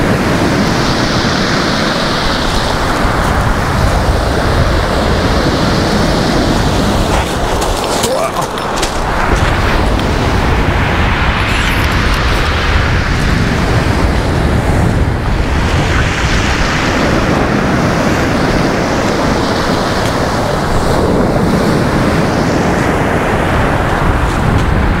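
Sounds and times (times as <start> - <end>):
surf breaking on pebble beach: 0.0 - 25.0
wind buffeting microphone: 0.0 - 25.0.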